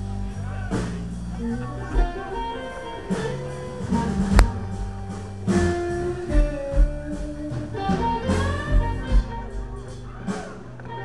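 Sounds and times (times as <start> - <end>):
amplified guitar held notes: 0.0 - 11.0
live blues band: 0.0 - 11.0.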